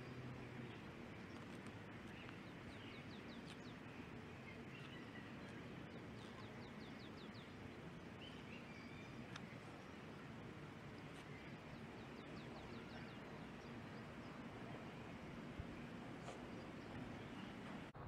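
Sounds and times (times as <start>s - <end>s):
faint outdoor hiss: 0.0s - 18.0s
songbirds chirping: 0.0s - 18.0s.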